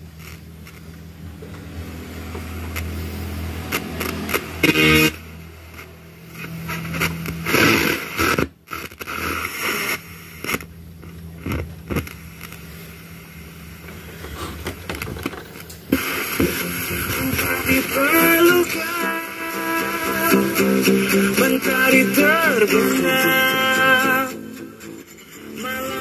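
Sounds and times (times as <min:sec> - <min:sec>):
radio static hiss with crackles: 0:00.0 - 0:26.0.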